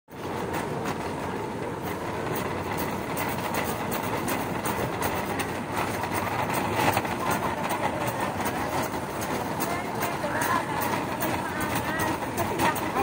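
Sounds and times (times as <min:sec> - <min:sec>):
shopping cart rolling on concrete: 0:00.1 - 0:13.0.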